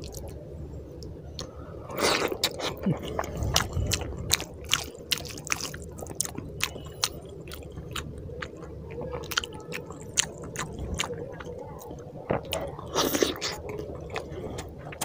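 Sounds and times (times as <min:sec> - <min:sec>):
person chewing food: 0:01.0 - 0:15.0.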